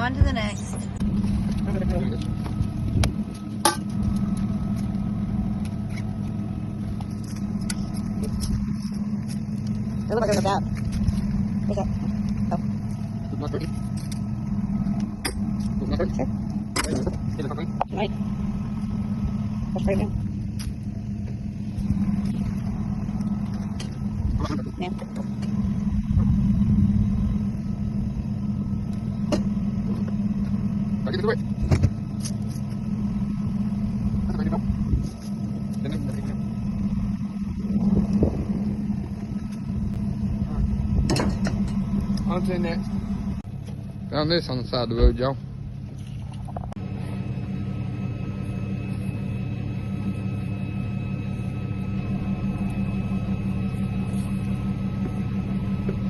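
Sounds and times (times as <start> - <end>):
road rumble: 0.0 - 56.0
truck engine hum: 0.0 - 56.0.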